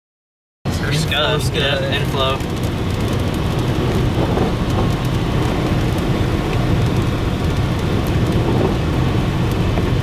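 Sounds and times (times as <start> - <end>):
car driving on wet road: 0.7 - 10.0
rain hitting windshield: 0.7 - 10.0.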